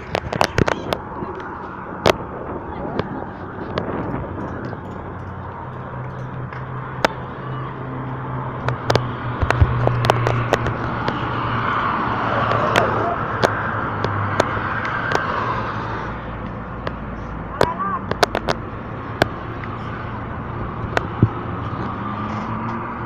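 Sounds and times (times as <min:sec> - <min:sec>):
engine hum: 0:00.0 - 0:23.0
passing vehicle road noise: 0:00.0 - 0:23.0.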